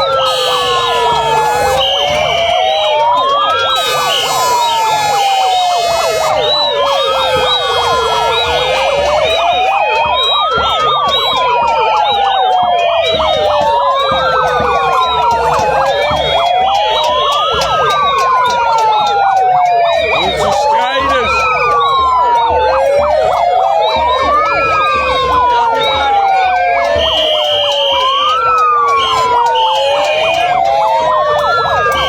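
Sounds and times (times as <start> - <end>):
sirens wailing: 0.0 - 32.0.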